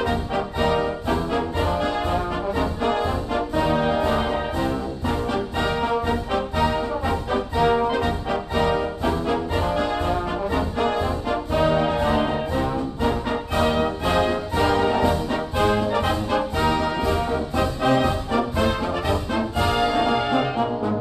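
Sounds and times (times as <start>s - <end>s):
brass instrumental music: 0.0s - 21.0s.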